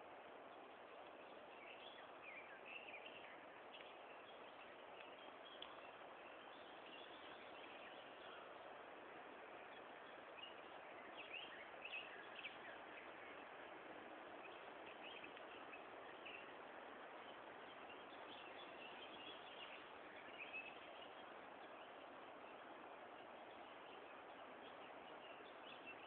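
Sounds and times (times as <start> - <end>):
steady hiss: 0.0 - 26.0
faint bird chirps: 0.4 - 26.0.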